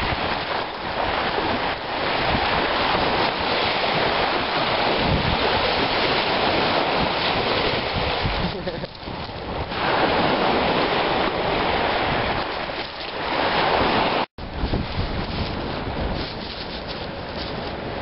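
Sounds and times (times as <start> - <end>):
waves washing up shingle: 0.0 - 18.0
wind buffeting microphone: 0.0 - 18.0.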